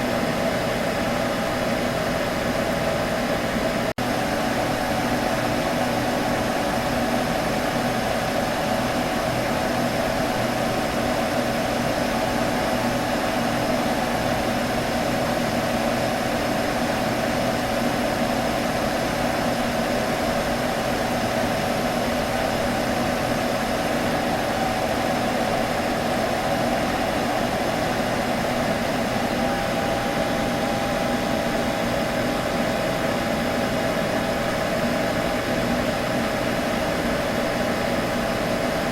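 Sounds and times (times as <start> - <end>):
computer hum with hiss: 0.0 - 38.9.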